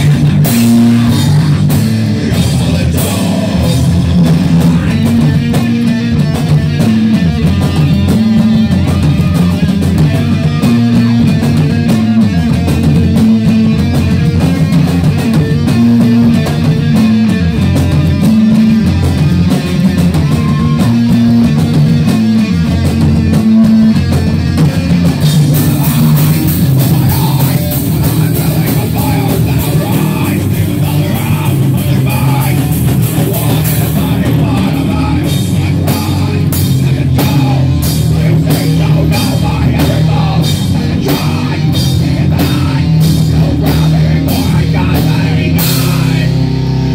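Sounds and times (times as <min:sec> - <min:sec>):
metal band playing: 0:00.0 - 0:46.9.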